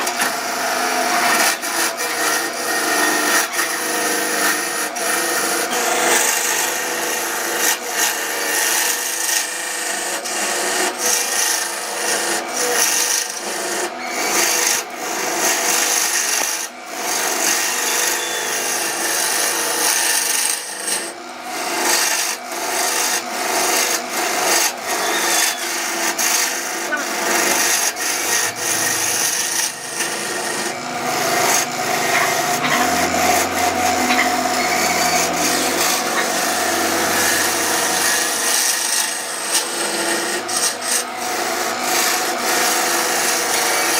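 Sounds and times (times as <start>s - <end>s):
lathe tool scraping wood: 0.0s - 43.9s.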